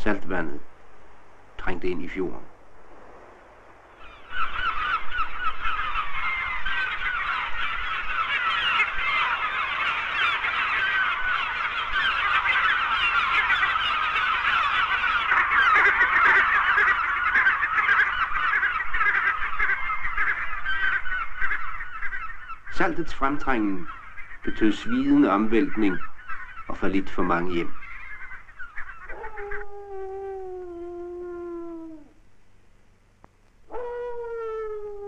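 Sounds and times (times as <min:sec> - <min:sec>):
flock of gulls calling: 0:03.8 - 0:32.2, 0:33.7 - 0:35.0.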